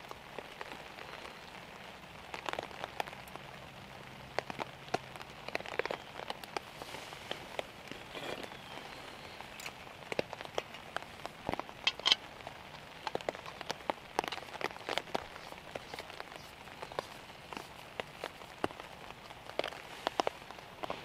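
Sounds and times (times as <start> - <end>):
rain hissing: 0.0 - 21.0
raindrops tapping: 0.0 - 21.0.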